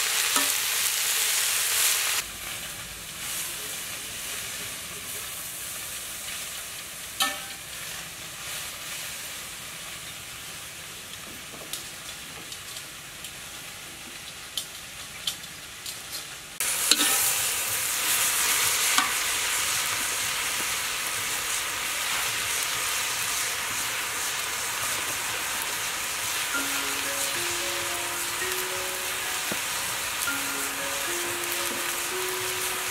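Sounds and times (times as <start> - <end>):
vegetables sizzling in a wok: 0.0 - 32.9.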